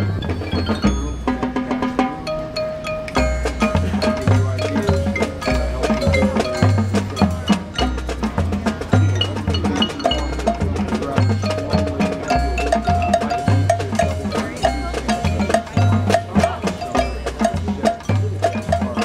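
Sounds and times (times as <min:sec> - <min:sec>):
drum and wood-block hits: 0:00.0 - 0:19.0
mallet keyboard notes: 0:00.0 - 0:19.0
stepped bass line: 0:03.2 - 0:19.0.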